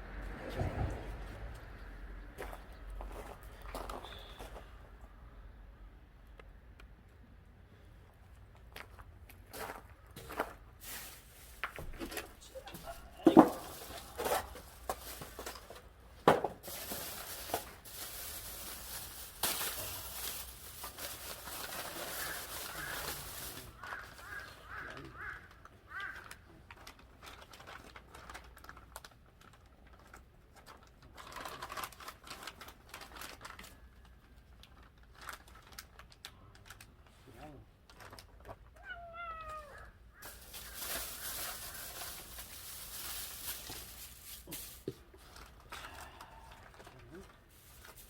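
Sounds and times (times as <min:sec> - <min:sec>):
rustling and crinkling: 0:08.0 - 0:48.0.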